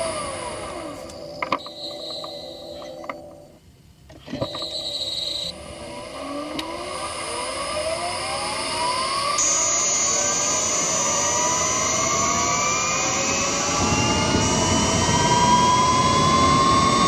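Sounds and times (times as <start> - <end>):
electric motor whine rising: 0.0 - 3.6, 4.3 - 17.0
high steady inverter tone: 0.0 - 17.0.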